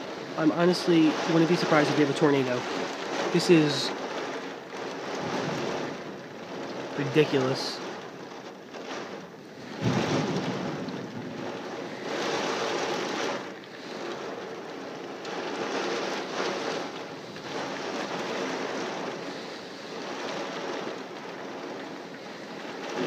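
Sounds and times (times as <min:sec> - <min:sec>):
heavy rain: 0:00.0 - 0:23.0
wind gusts: 0:00.0 - 0:23.0.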